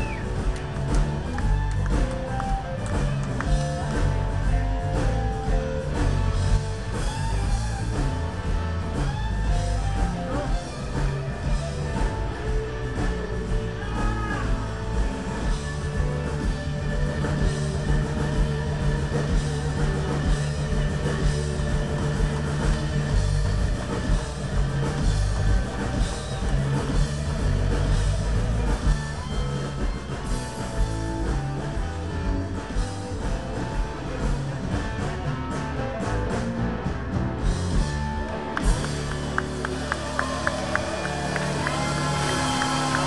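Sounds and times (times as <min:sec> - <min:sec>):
drum kit beat: 0:00.0 - 0:43.0
electric guitars: 0:00.0 - 0:43.0.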